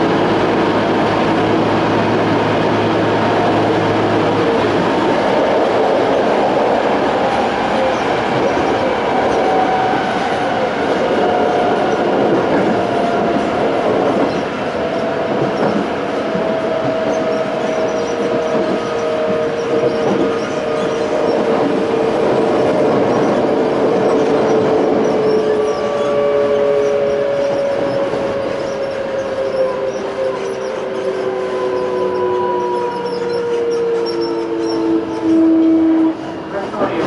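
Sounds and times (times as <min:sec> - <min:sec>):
train wheels on rail: 0:00.0 - 0:37.0.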